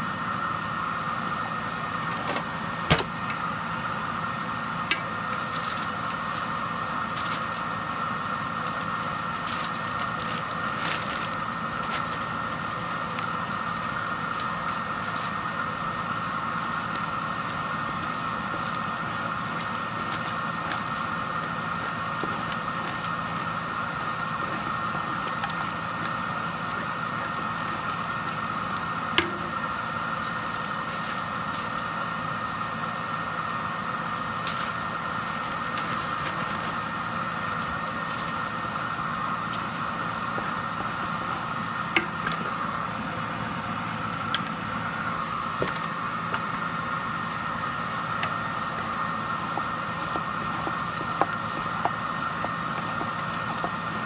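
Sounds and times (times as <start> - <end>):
steady whirring hum: 0.0 - 54.0.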